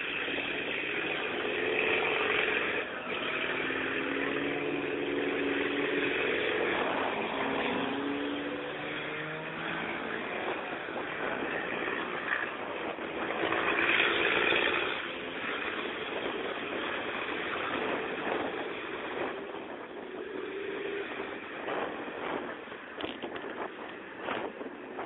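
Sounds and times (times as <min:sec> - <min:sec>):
distant racing truck engines: 0:00.0 - 0:25.0.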